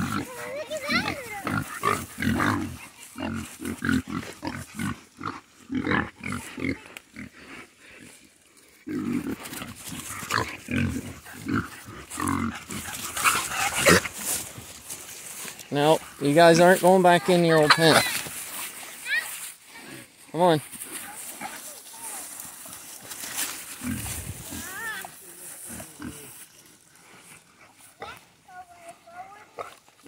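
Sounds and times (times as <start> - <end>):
pigs grunting: 0.0 - 18.7, 20.8 - 30.0.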